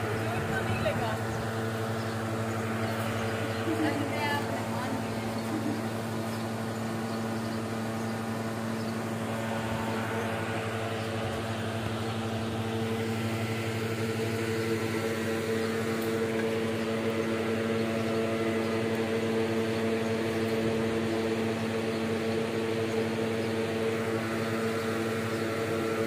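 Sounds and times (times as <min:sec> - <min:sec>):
fan air rushing: 0:00.0 - 0:26.0
motor hum: 0:00.0 - 0:26.0.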